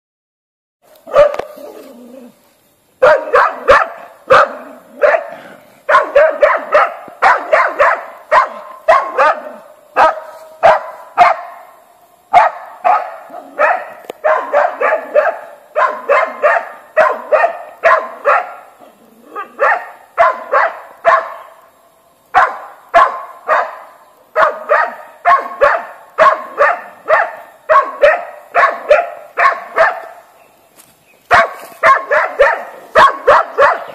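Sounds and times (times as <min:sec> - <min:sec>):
dog barking rapidly: 0:01.1 - 0:01.5, 0:03.0 - 0:11.7, 0:12.3 - 0:18.8, 0:19.4 - 0:21.6, 0:22.3 - 0:30.3, 0:31.3 - 0:33.9.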